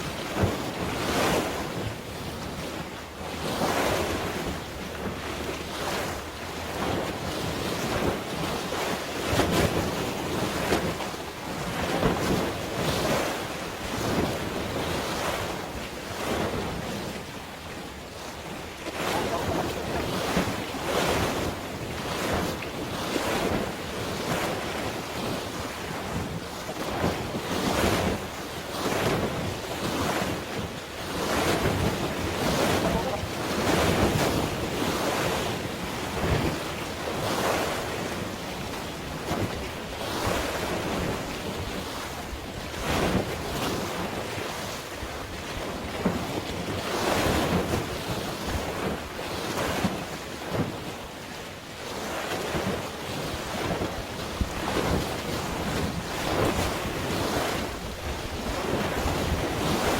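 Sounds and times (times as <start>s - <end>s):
sea waves splashing: 0.0s - 59.9s
wind buffeting microphone: 3.4s - 50.9s, 51.9s - 59.9s.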